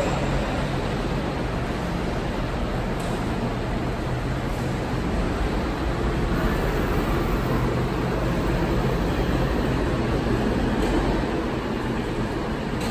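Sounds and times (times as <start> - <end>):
workshop machinery hum: 0.0 - 12.9.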